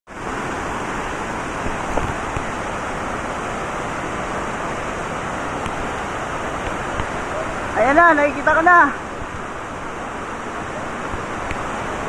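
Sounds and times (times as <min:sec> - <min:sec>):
rushing water: 0:00.1 - 0:12.0.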